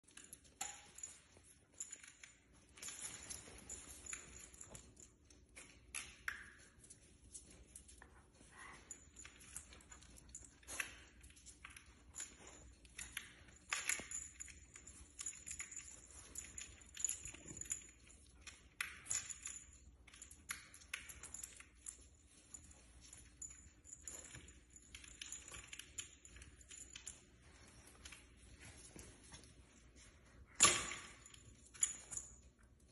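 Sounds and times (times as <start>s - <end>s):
puppy claws clicking on floor: 0.0s - 32.9s.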